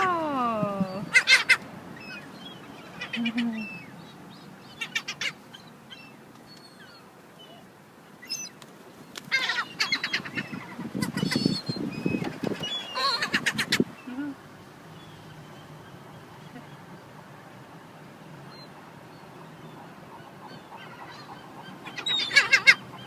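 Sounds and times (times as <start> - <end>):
seagulls calling: 0.0 - 14.4, 18.5 - 23.0.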